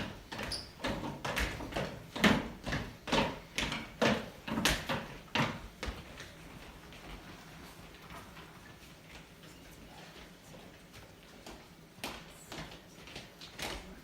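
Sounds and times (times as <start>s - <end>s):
running footsteps on floor: 0.0s - 14.0s.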